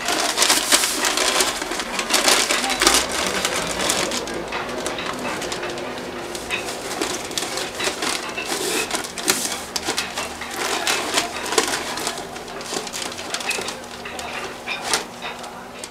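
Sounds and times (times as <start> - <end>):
paper wrapping crinkling: 0.0 - 15.9.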